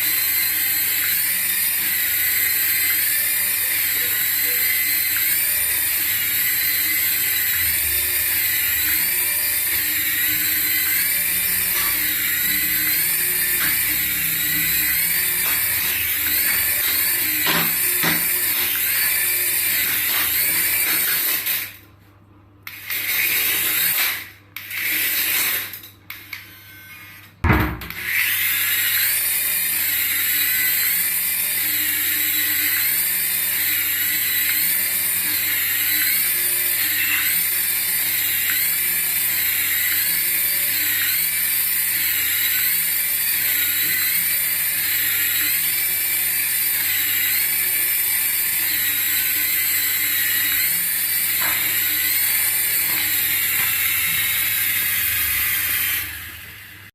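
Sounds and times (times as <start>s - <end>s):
toy electric motor whirring: 0.0s - 21.8s, 22.6s - 56.9s.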